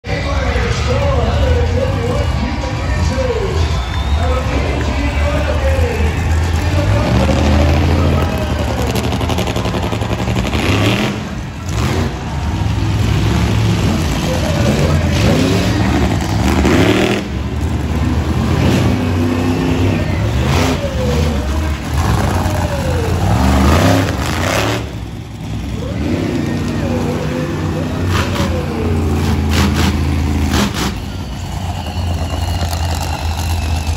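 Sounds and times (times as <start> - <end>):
monster truck engines revving: 0.0 - 33.9.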